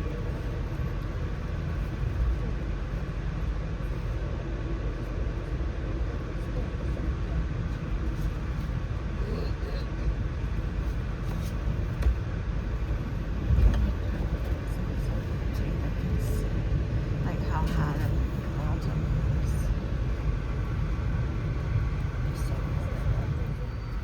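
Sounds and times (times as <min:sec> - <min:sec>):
train rumbling on track: 0:00.0 - 0:24.0.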